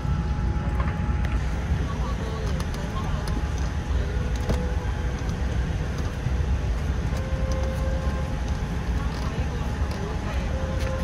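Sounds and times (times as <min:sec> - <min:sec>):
airliner cabin rumble and hiss: 0:00.0 - 0:11.0.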